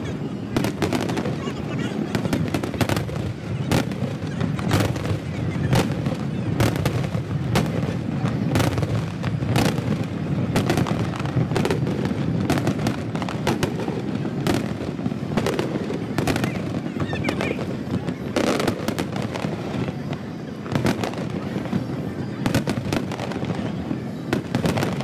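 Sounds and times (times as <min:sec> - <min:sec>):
fireworks crackling: 0:00.0 - 0:25.0
rumble of explosions: 0:00.0 - 0:25.0.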